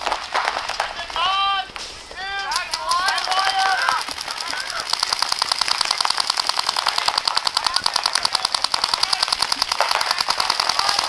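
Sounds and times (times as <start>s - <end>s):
paintball markers firing: 0.0s - 11.0s.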